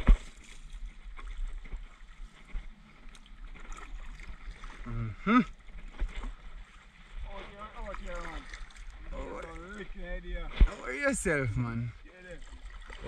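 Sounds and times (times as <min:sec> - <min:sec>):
paddle strokes in water: 0:00.0 - 0:13.0.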